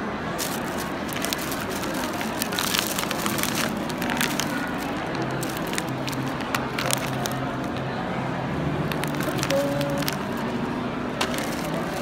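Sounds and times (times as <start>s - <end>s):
plastic bag crinkling: 0.4s - 7.8s, 8.9s - 10.5s, 11.2s - 12.0s.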